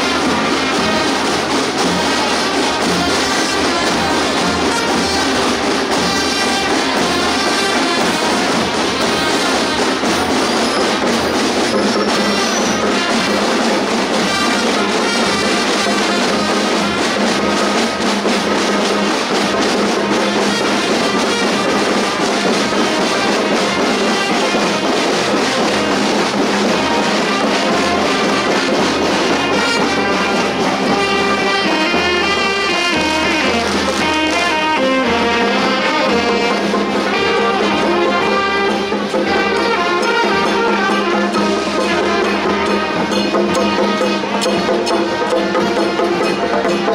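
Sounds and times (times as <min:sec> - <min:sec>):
marching band playing: 0:00.0 - 0:46.9.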